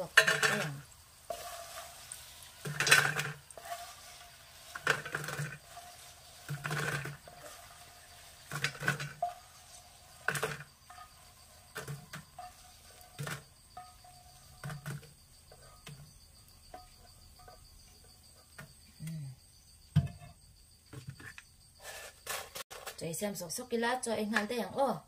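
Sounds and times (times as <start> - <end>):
spatula scraping in frying pan: 0.0 - 18.5, 21.1 - 22.8.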